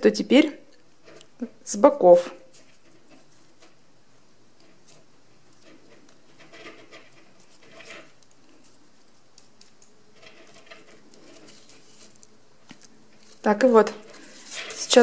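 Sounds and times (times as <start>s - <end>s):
tape rustling and clicking: 0.7s - 1.4s, 2.5s - 3.8s, 4.5s - 15.0s.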